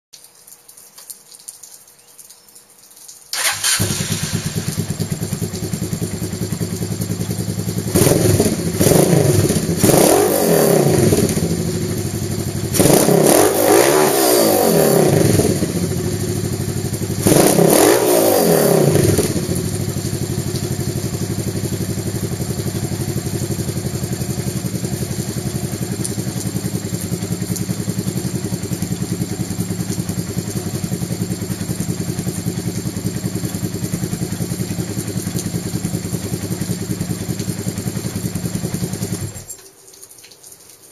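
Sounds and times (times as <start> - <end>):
motorcycle engine starting: 3.3 - 39.6
motorcycle engine idling and revving: 3.4 - 39.6.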